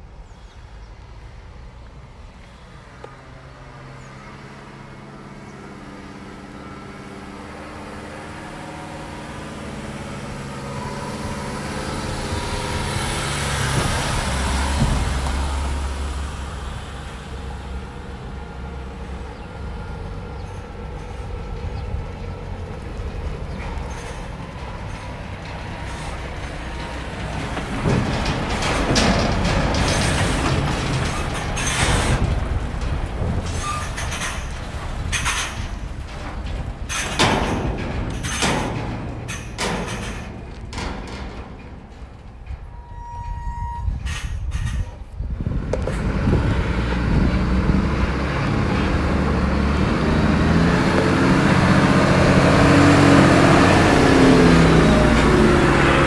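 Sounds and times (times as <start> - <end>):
lorry engine hum: 0.0 - 43.2, 44.0 - 56.0
trailer rolling past: 0.7 - 56.0.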